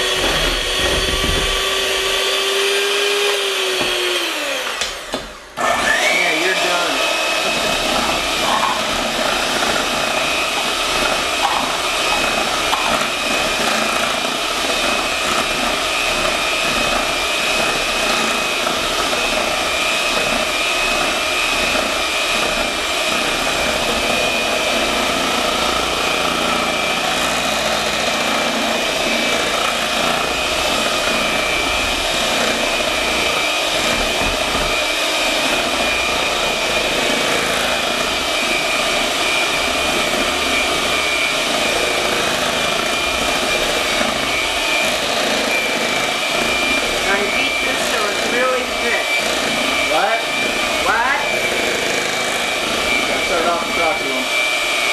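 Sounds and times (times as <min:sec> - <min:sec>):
electric hand mixer whining: 0:00.0 - 0:54.9.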